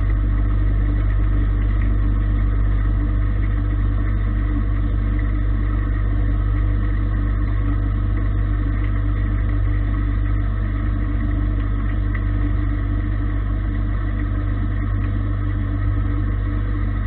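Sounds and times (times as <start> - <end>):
lathe machine hum: 0.0 - 17.0.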